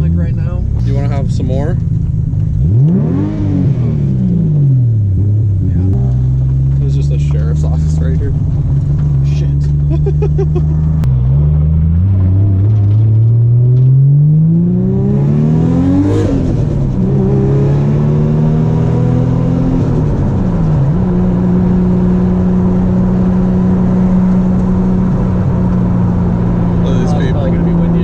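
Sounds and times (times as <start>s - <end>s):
car engine revving under acceleration: 0.0s - 28.0s.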